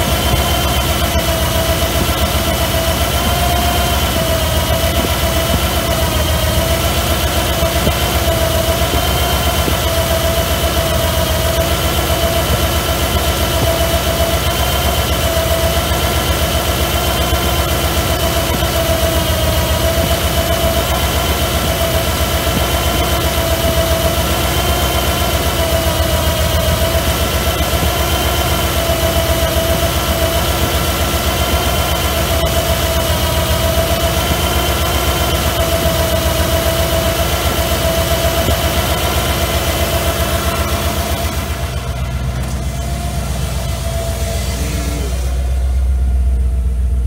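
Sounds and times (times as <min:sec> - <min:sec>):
car engine idling: 0:00.0 - 0:47.0
steady whine: 0:00.0 - 0:47.0.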